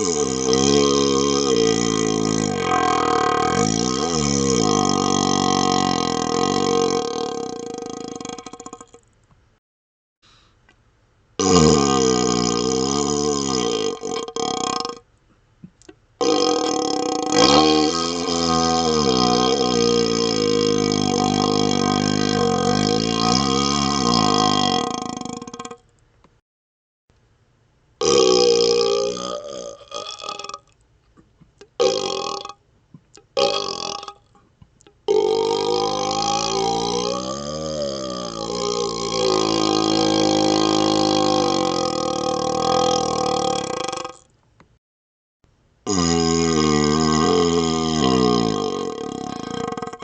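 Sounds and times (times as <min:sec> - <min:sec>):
burp through hollow tube: 0:00.0 - 0:09.1, 0:11.4 - 0:15.1, 0:15.9 - 0:25.9, 0:28.0 - 0:30.8, 0:31.6 - 0:32.6, 0:33.2 - 0:44.3, 0:45.9 - 0:50.0.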